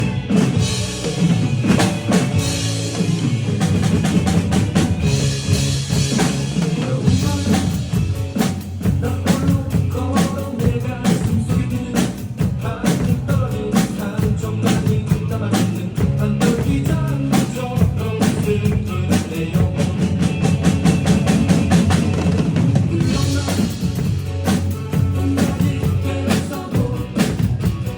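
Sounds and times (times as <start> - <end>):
drum kit playing: 0.0 - 27.9.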